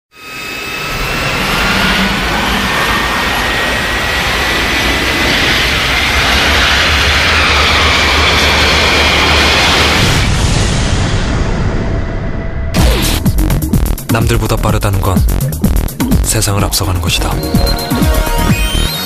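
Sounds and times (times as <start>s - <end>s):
jet engine whine rising: 0.1s - 14.8s, 15.4s - 19.0s
jet engine rush and rumble: 0.2s - 17.2s.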